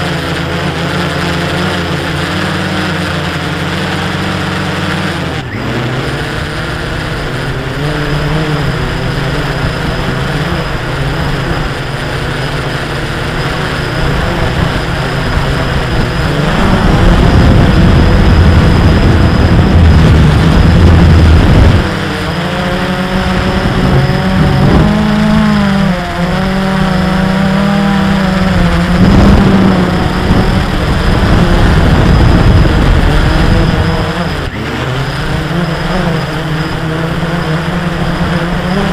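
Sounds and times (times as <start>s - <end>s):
drone propellers buzzing: 0.0s - 38.9s
wind rumble on microphone: 0.0s - 38.9s.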